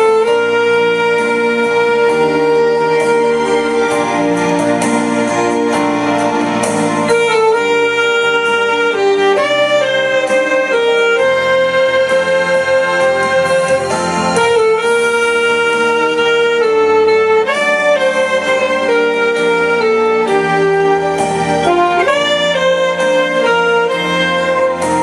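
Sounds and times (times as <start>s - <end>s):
saxophone slow melody: 0.0s - 25.0s
sustained accompaniment: 0.0s - 25.0s.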